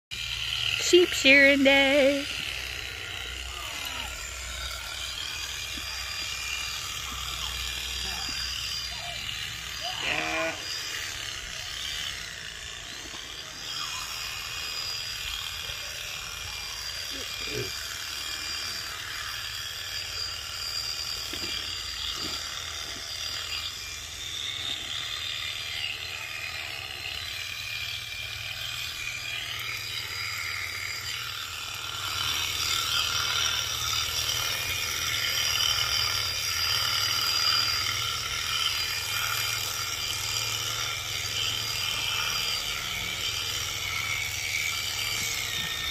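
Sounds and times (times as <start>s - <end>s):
shearing handpiece whirring: 0.1s - 45.9s.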